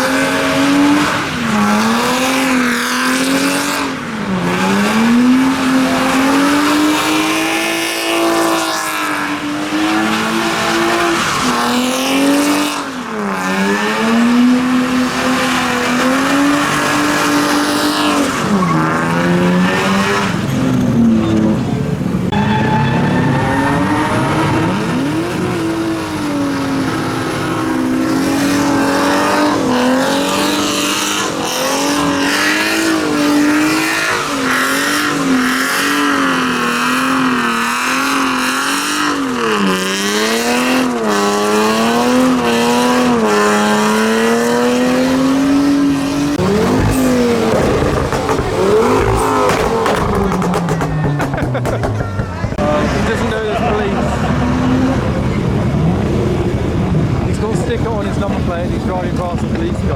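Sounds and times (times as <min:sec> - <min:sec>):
car engine at high revs: 0:00.0 - 0:59.9
tyres spinning and squealing: 0:00.0 - 0:59.9.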